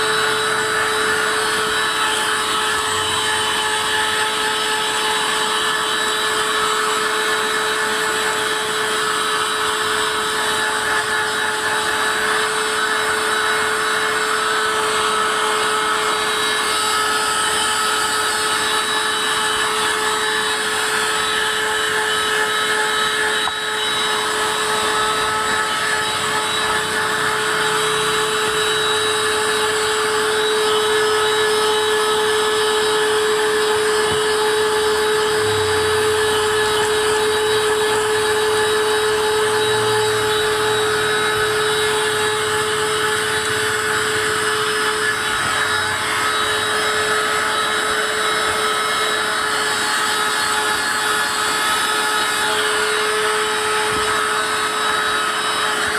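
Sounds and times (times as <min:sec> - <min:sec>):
handheld vacuum cleaner running: 0:00.0 - 0:55.9.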